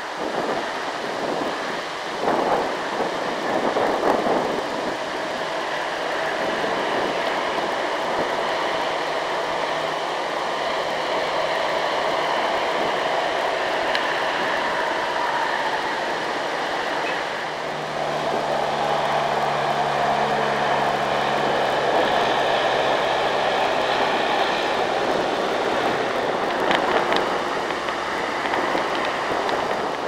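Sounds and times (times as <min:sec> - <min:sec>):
diesel truck engines: 0:00.0 - 0:30.0
tyre and road noise: 0:00.0 - 0:30.0.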